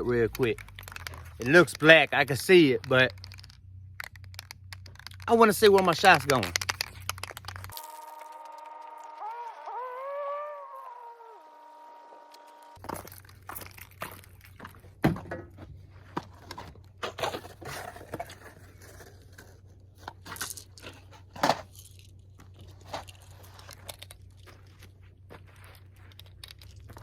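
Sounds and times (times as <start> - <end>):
handling clicks and crinkling: 0.0 - 9.8, 12.2 - 27.0.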